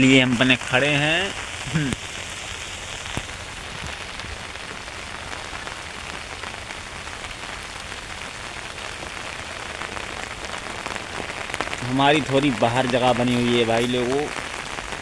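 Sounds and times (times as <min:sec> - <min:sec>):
heavy rain falling: 0:00.0 - 0:15.0
drops ticking on an umbrella: 0:03.0 - 0:15.0.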